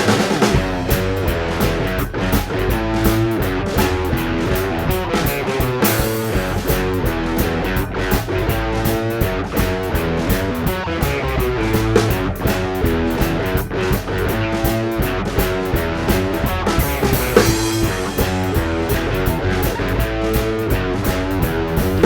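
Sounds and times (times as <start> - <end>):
drum kit beat: 0.0 - 22.0
rock guitar playing: 0.0 - 22.0.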